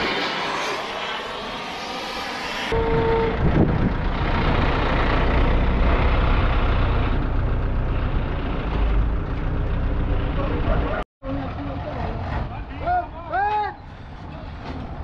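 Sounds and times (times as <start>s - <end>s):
diesel truck engine rumbling: 2.8s - 15.0s.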